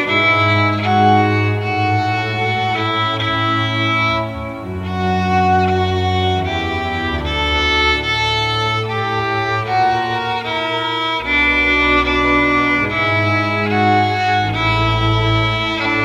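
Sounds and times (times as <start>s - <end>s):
bowed string ensemble: 0.0s - 16.0s.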